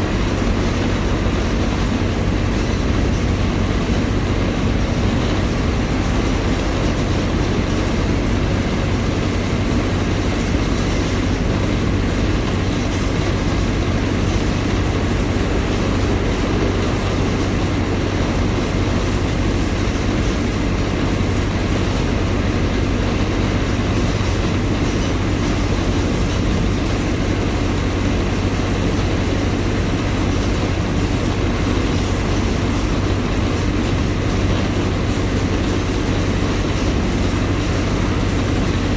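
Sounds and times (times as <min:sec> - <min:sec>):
bus diesel engine running: 0:00.0 - 0:38.9
bus rolling noise: 0:00.0 - 0:38.9.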